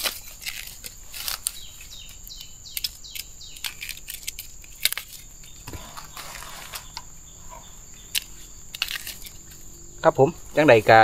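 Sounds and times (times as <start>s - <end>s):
crickets chirring: 0.0s - 11.0s
rustling: 0.0s - 11.0s.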